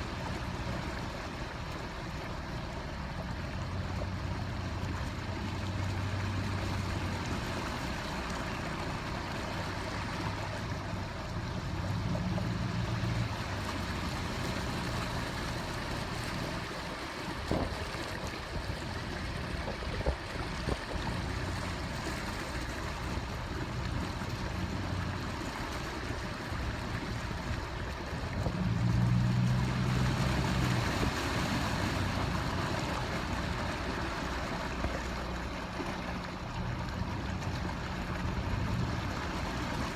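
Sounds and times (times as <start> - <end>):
rushing wind and storm water: 0.0 - 39.9.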